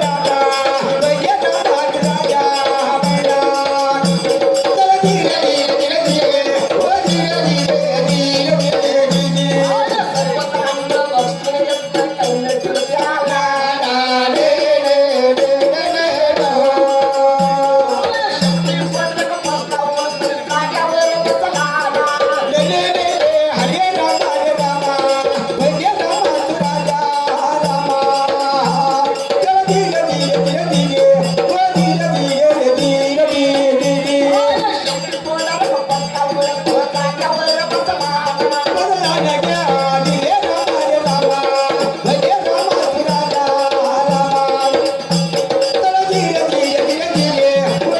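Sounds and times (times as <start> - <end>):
shaken rattle percussion: 0.0 - 47.9.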